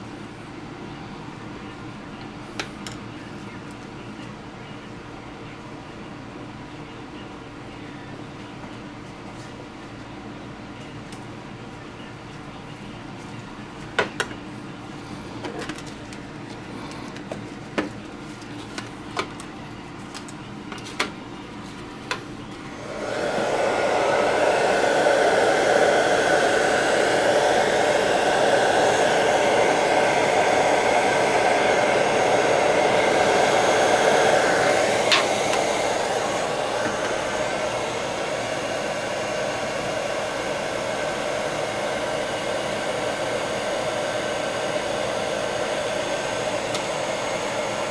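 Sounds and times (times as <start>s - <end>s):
hot-air blower whirring: 0.0s - 47.9s.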